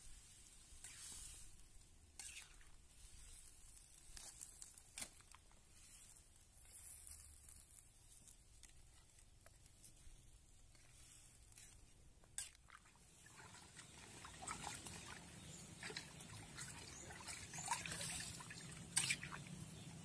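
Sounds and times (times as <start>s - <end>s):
faint sizzling in a wok: 0.0s - 20.0s.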